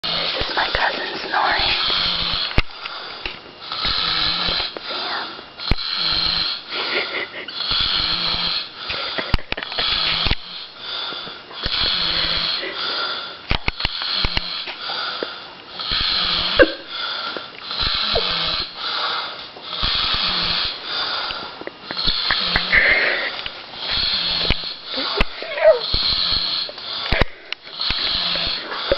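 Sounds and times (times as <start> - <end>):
man snoring: 0.0 - 15.2, 15.8 - 28.9.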